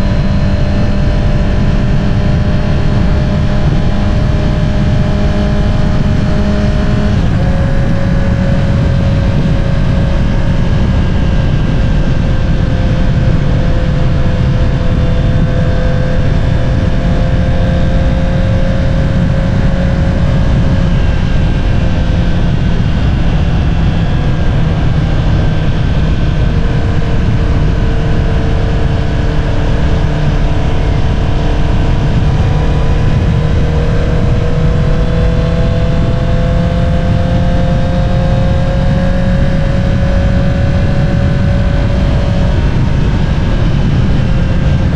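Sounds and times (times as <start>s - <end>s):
motorcycle engine cruising: 0.0s - 44.9s
steady low rumble: 0.0s - 44.9s.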